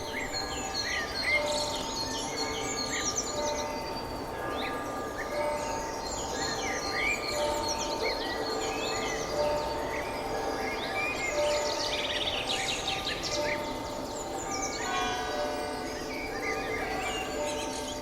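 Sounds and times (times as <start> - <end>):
birds chirping and singing: 0.0 - 18.0
steady background hiss: 0.0 - 18.0.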